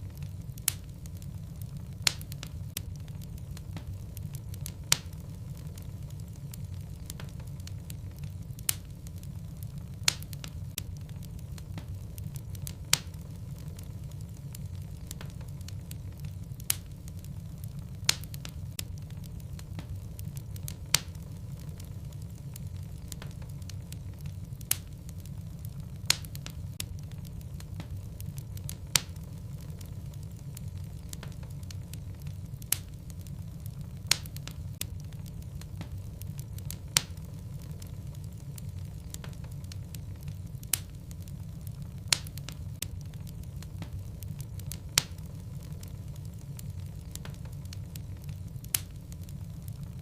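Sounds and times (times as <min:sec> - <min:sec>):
fire rumbling: 0:00.0 - 0:50.0
logs crackling: 0:00.0 - 0:50.0.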